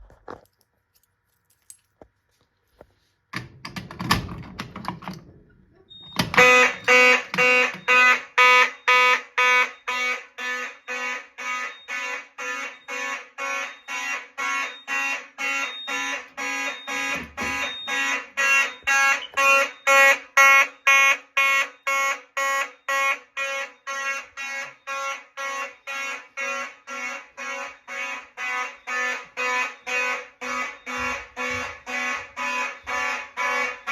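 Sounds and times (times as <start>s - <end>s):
fire alarm pulses: 5.8s - 33.9s.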